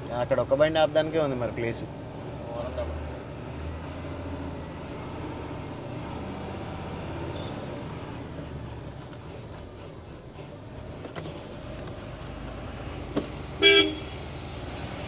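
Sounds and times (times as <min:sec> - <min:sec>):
diesel truck engine humming: 0:00.0 - 0:15.0.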